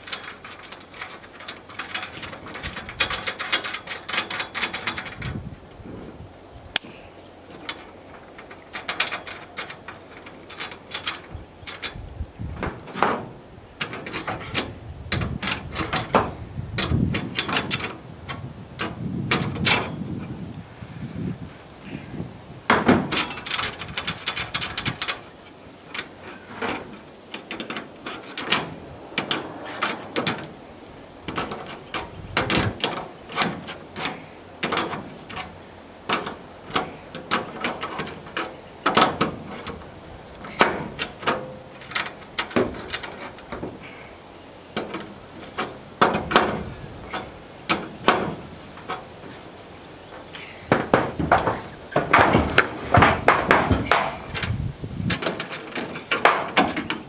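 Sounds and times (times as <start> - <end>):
clatter of metal racking hardware: 0.0 - 5.5, 7.5 - 12.0, 12.6 - 20.2, 22.7 - 44.1, 44.7 - 57.0
heavy knocks and scrapes: 7.5 - 20.5, 21.2 - 44.0, 44.8 - 57.0.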